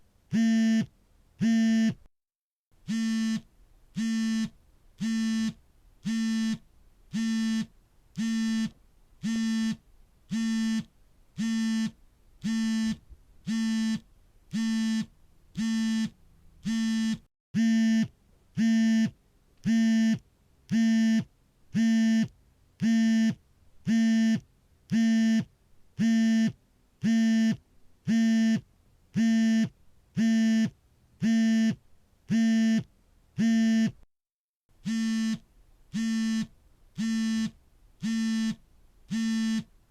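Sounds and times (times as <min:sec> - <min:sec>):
smartphone vibrating: 0:00.3 - 0:02.0, 0:02.9 - 0:28.6, 0:29.2 - 0:34.0, 0:34.8 - 0:39.7.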